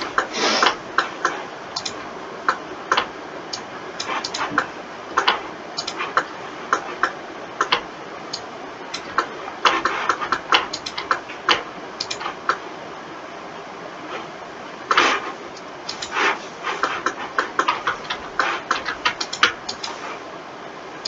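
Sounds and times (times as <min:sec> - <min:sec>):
computer mouse and keyboard clicking: 0:00.0 - 0:12.6, 0:14.9 - 0:20.1
steady background hiss: 0:00.0 - 0:21.0.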